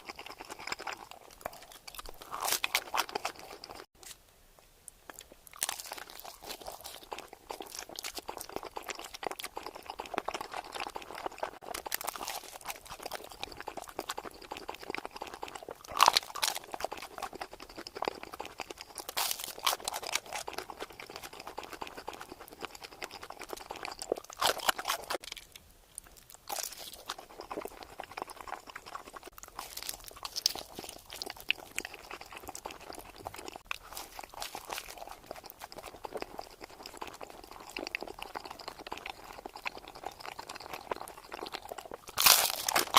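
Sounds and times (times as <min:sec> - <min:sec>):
chewing and crunching food: 0:00.0 - 0:04.2, 0:05.0 - 0:42.9.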